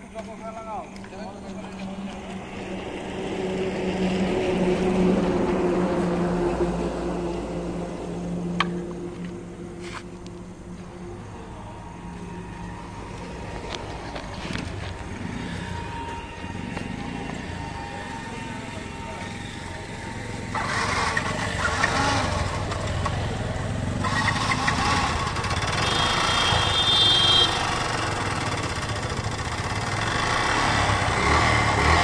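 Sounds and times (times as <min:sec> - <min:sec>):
busy mechanical noise: 0:00.0 - 0:32.0
motorcycle engine rumbling: 0:00.0 - 0:32.0.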